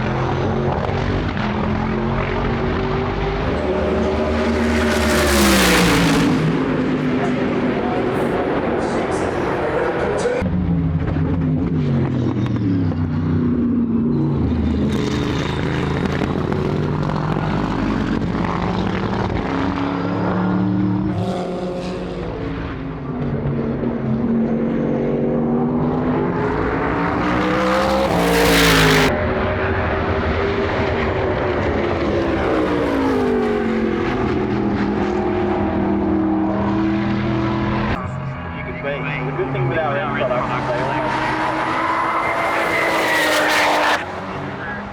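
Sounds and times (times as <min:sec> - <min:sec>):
race car engines revving past: 0:00.0 - 0:44.9.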